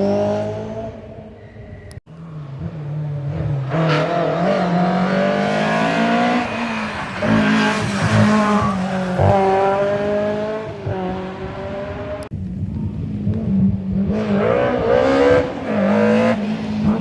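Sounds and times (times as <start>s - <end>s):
rally car engine accelerating: 2.1s - 17.0s.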